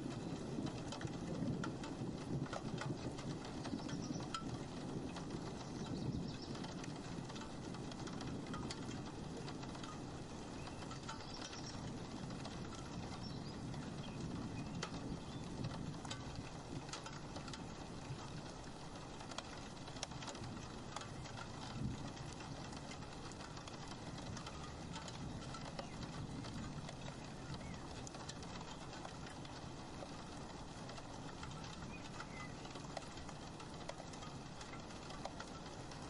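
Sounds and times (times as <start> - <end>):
raindrops ticking on glass: 0.0 - 36.0.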